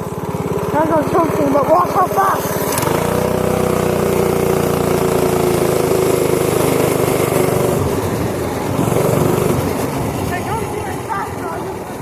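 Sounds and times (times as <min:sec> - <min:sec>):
pit bike engine at high revs: 0:00.0 - 0:12.0.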